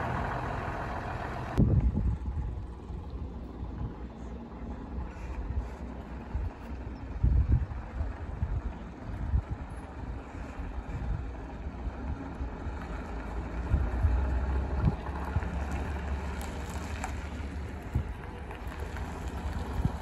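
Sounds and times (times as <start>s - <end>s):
bus diesel engine running: 0.0s - 20.0s
wind buffeting microphone: 0.0s - 20.0s.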